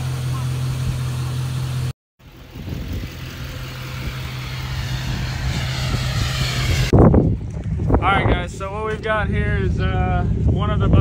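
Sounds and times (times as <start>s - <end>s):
road vehicle noise rushing: 0.0s - 11.0s
truck engine running: 0.0s - 11.0s.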